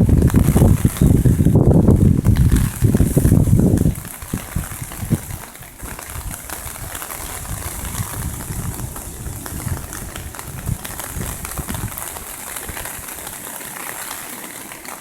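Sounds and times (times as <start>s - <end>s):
wind buffeting microphone: 0.0s - 13.5s
heavy rain falling: 0.0s - 15.0s.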